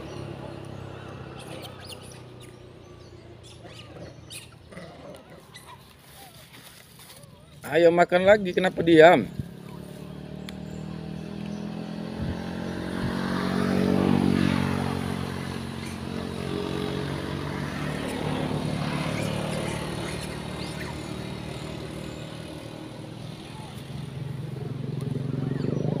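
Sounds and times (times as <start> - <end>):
second engine passing: 0.0 - 6.2, 7.7 - 26.0
motorcycle passing: 0.0 - 26.0.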